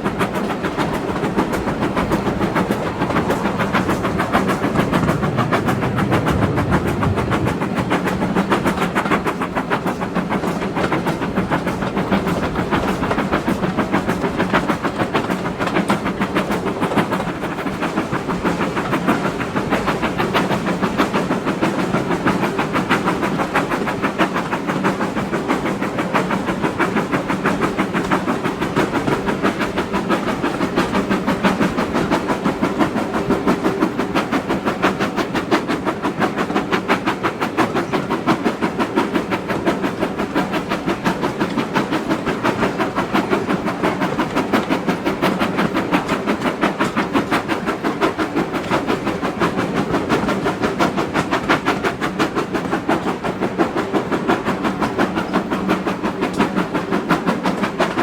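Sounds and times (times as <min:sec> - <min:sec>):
hum of running gear and rails: 0:00.0 - 0:58.0
steam locomotive exhaust beat: 0:00.0 - 0:58.0.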